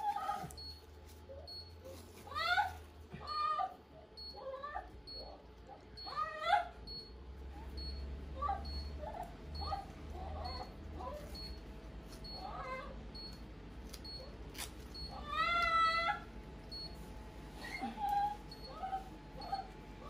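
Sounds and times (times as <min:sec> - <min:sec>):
dog whining: 0:00.0 - 0:11.6, 0:12.2 - 0:13.3, 0:15.0 - 0:16.3, 0:17.6 - 0:20.0.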